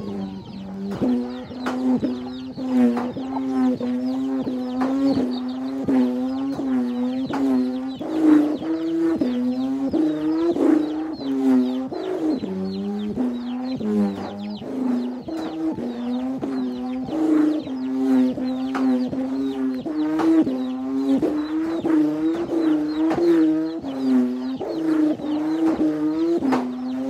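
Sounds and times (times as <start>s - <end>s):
whirled humming bow drone: 0.0s - 27.0s.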